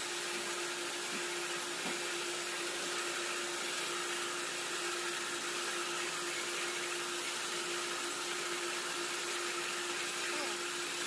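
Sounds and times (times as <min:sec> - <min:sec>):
motor hum: 0:00.0 - 0:11.0.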